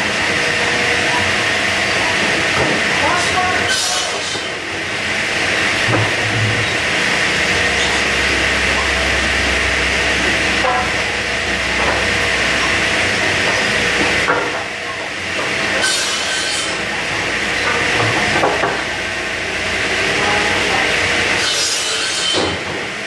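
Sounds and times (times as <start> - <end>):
saw cutting lumber: 0.3 - 14.7, 15.3 - 22.7.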